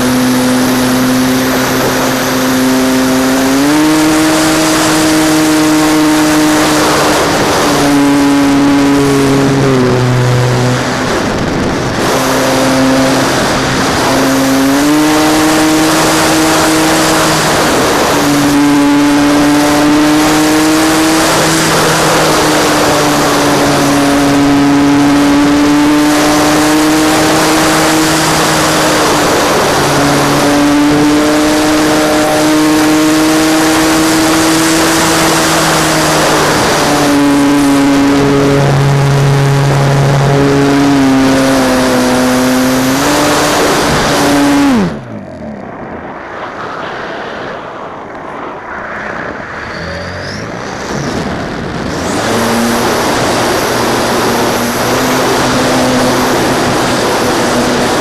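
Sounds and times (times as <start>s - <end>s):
model plane motor buzzing: 0.0s - 45.5s, 51.8s - 58.0s
wind noise on microphone: 0.0s - 58.0s.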